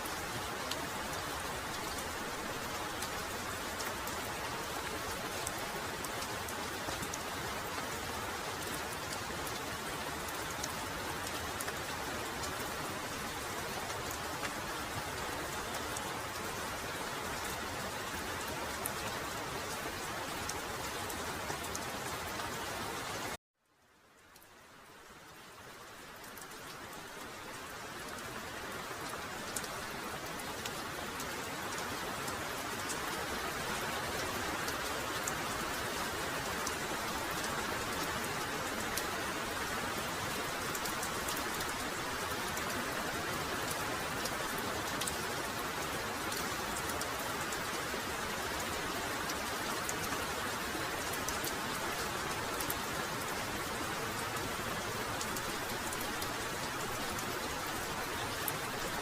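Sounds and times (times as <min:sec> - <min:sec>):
heavy rain pouring: 0:00.0 - 0:23.4, 0:24.2 - 0:59.0.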